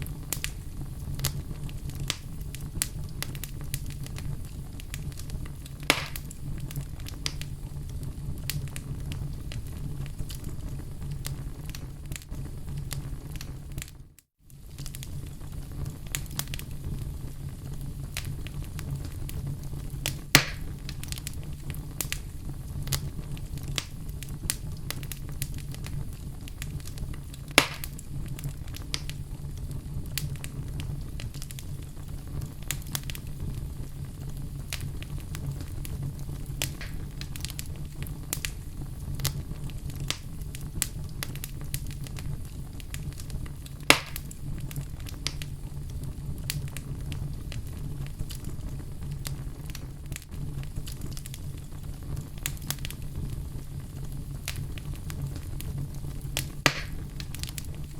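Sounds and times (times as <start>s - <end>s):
steady low rumble: 0.0s - 13.4s, 15.0s - 57.9s
loud fire pops: 0.0s - 57.9s
wood fire crackling: 0.0s - 57.9s.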